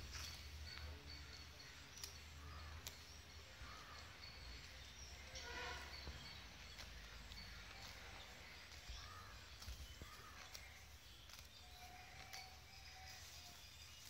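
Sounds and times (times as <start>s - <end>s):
cow chewing grass: 0.0s - 14.0s.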